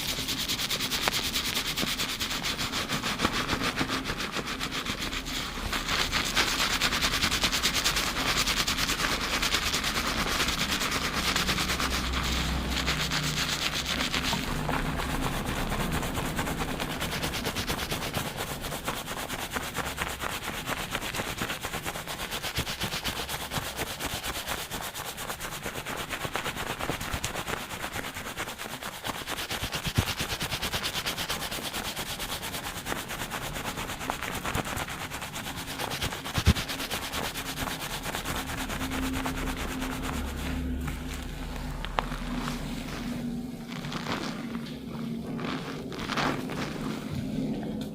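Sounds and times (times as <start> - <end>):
fingertips scrubbing lathered hair: 0.0 - 47.9.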